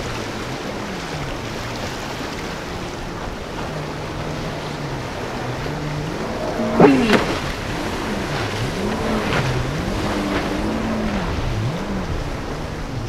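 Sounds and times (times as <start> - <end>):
jet ski engine revving: 0.0 - 13.0.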